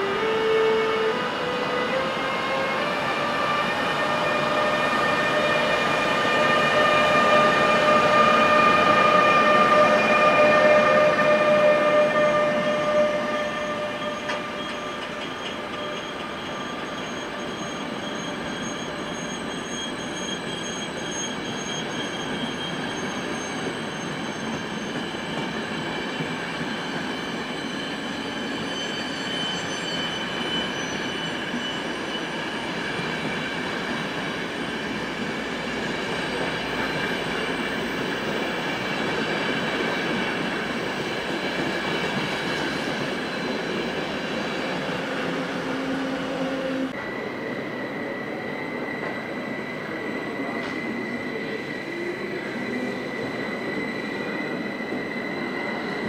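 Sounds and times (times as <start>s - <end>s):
electric locomotive whine: 0.0s - 56.0s
high wheel squeals: 0.0s - 56.0s
train wheels on rails: 1.1s - 56.0s.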